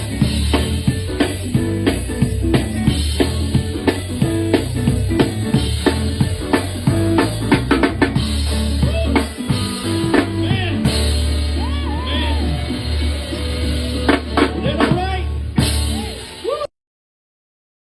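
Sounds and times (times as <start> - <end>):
sustained bass line: 0.0 - 16.4
drum kit groove: 0.0 - 16.6.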